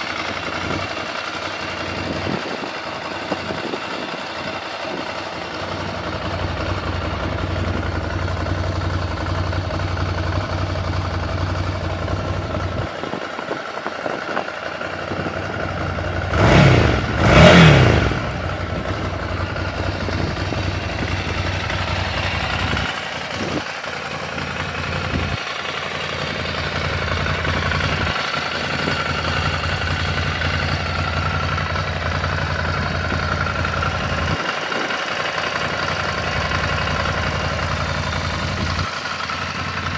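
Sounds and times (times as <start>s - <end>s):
motorcycle engine blips: 0.0s - 39.9s
motorcycle engine idling: 0.0s - 39.9s.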